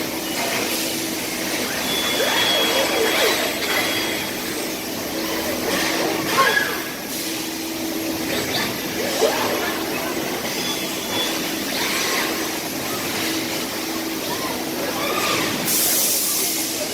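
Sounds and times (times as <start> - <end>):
machinery humming: 0.0 - 16.9.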